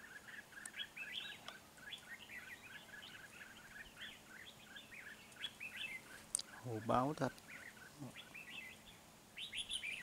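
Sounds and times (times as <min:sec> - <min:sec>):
bird chirping rapidly: 0:00.0 - 0:10.0.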